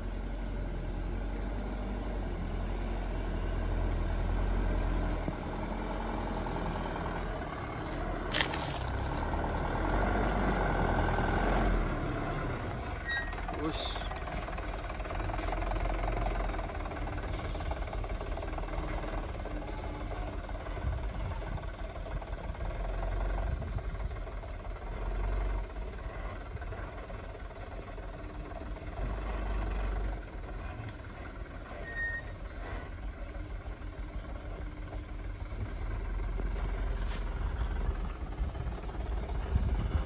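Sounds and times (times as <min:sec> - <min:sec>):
diesel truck engine pulling away: 0:00.0 - 0:40.0.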